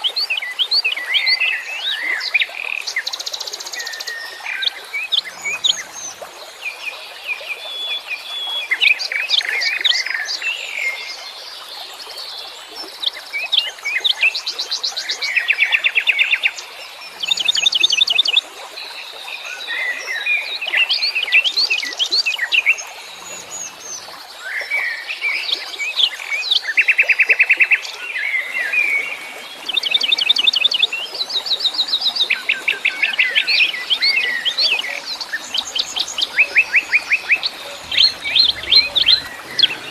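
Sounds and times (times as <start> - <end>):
songbirds singing and calling: 0.1 - 39.9.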